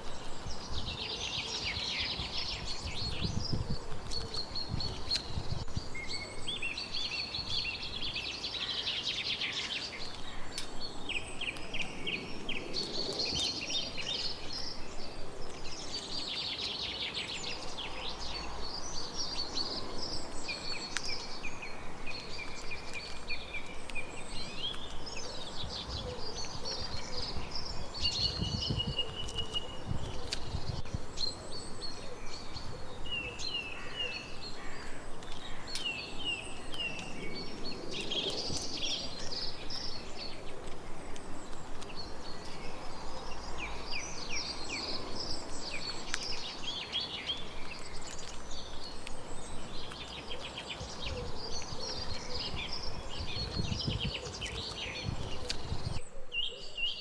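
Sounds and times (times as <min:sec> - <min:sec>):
birds chirping and trilling: 0:00.0 - 0:57.0
steady outdoor hiss: 0:00.0 - 0:57.0.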